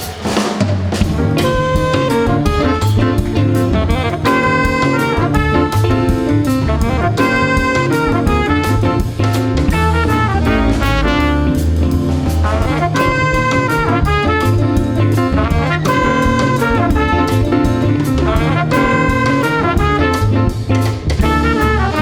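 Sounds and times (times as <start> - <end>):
bass: 0.0 - 22.0
drum kit: 0.0 - 22.0
trumpet: 0.0 - 22.0
saxophone: 1.1 - 22.0.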